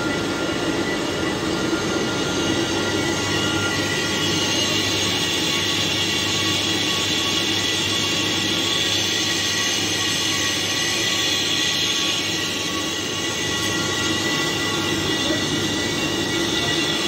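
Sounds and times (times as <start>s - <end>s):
high-pitched whining tones: 0.0s - 17.0s
lathe cutting metal: 0.0s - 17.0s.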